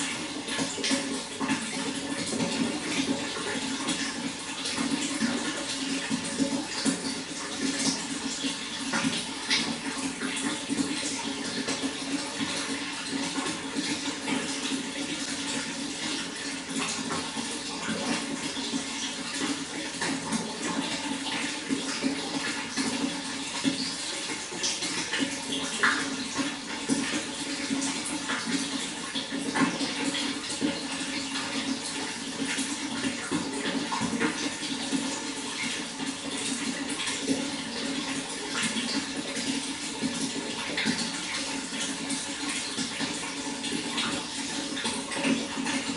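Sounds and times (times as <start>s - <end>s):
running water splashing: 0.0s - 45.9s.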